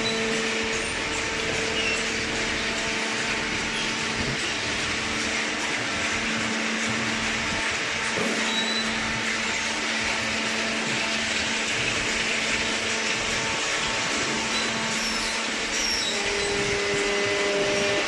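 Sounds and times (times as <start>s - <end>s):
machinery whirring: 0.0s - 18.0s.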